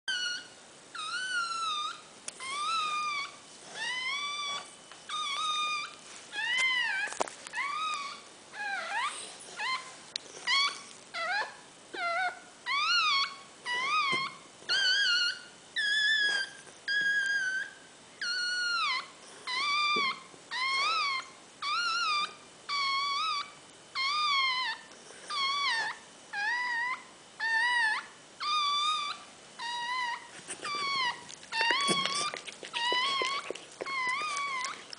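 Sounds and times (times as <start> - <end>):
dog whining cries: 0.1 - 34.9.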